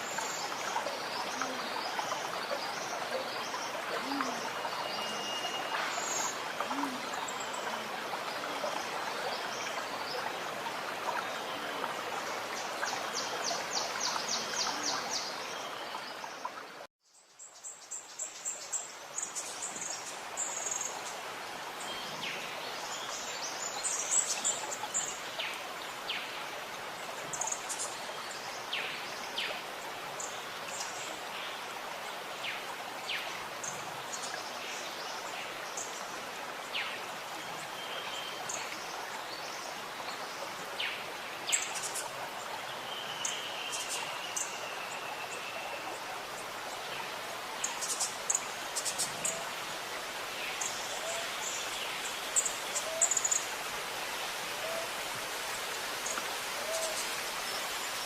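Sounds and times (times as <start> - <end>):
gurgling stream: 0.0 - 58.0.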